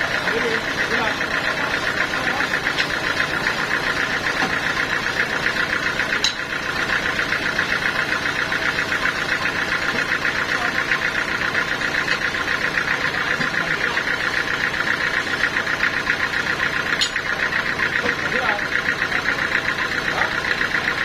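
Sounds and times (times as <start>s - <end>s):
sawmill machinery pulsing: 0.0s - 21.0s.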